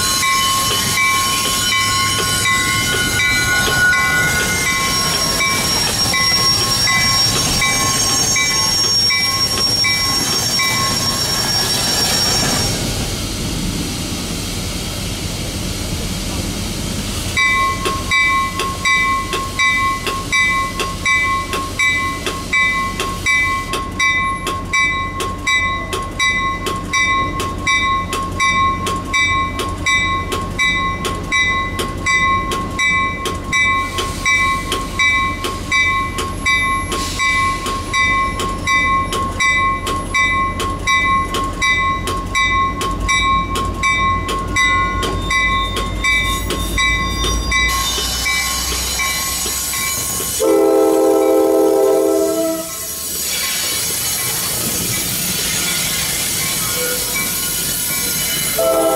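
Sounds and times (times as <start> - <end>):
railroad bell ringing: 0.0 - 12.9, 17.3 - 58.9
train rumbling: 0.0 - 58.9.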